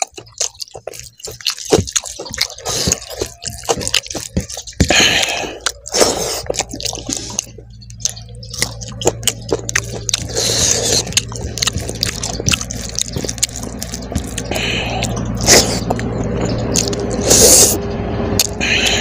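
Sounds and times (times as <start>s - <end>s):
fingers squishing wet rice: 0.0s - 17.8s
wet chewing and lip smacking: 0.0s - 17.8s, 18.4s - 19.0s
low hum: 0.0s - 19.0s.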